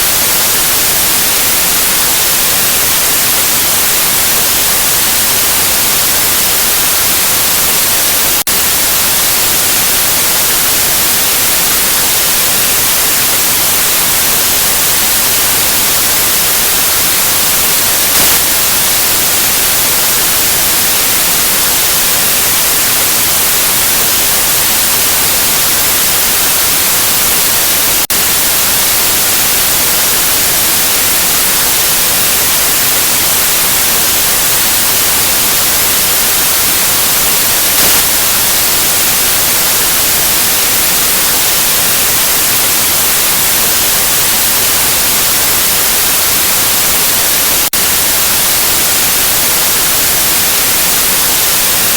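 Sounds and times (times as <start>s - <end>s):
electronic white noise hiss: 0.0s - 51.9s.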